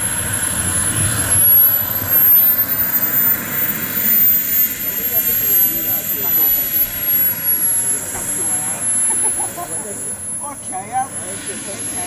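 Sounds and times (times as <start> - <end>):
model jet turbine whine: 0.0 - 12.0
rushing exhaust noise: 0.0 - 12.0.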